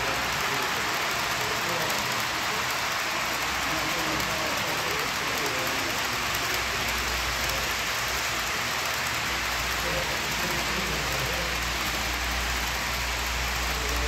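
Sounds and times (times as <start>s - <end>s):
model train wheels rumbling: 0.0s - 14.0s
murmur of voices: 0.0s - 14.0s.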